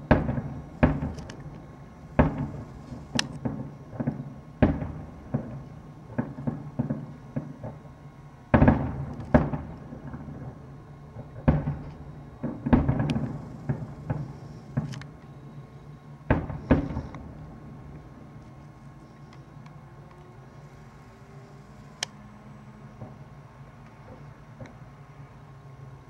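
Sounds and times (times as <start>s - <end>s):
fireworks booming: 0.0s - 20.8s, 22.5s - 25.2s.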